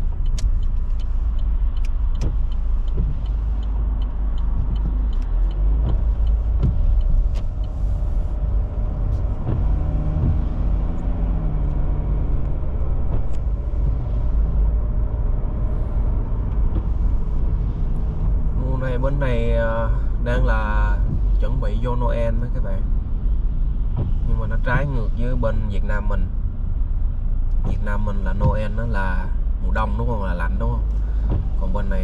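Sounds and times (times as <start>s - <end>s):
regular light ticks: 0.0s - 15.2s, 16.1s - 29.0s
car engine and tyres rumbling: 0.0s - 32.0s.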